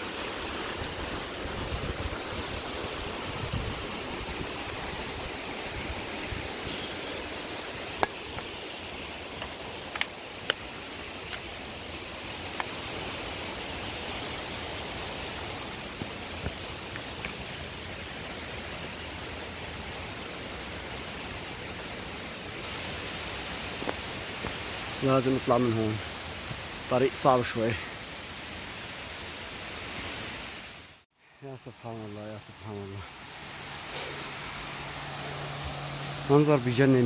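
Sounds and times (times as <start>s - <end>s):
waterfall rushing: 0.0s - 30.8s, 31.7s - 37.0s.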